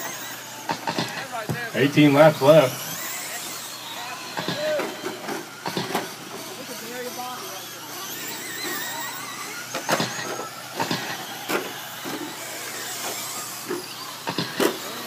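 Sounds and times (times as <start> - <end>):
toy truck motors whining: 0.0 - 15.0.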